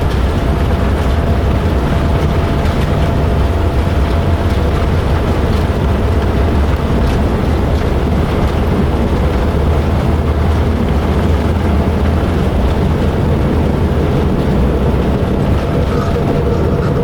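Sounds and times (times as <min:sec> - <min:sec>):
airplane cabin engine noise: 0:00.0 - 0:17.0.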